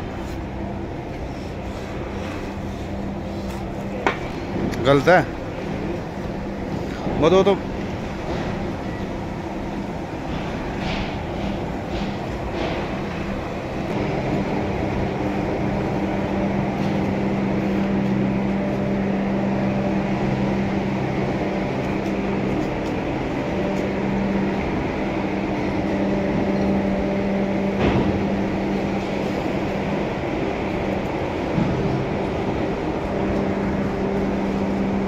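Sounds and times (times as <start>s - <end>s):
machine humming: 0.0s - 35.0s.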